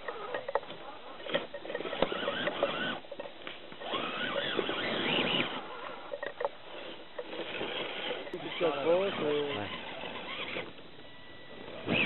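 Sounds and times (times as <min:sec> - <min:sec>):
electric motor and gearbox whining: 0:00.0 - 0:12.0.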